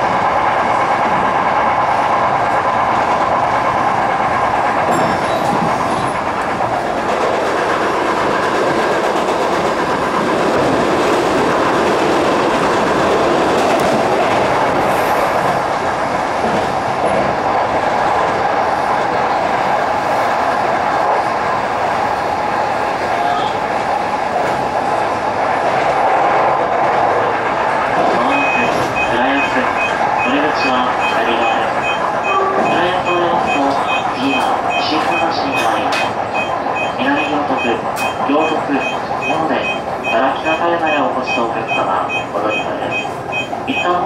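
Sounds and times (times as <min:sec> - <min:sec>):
train wheels on rail: 0:00.0 - 0:44.0.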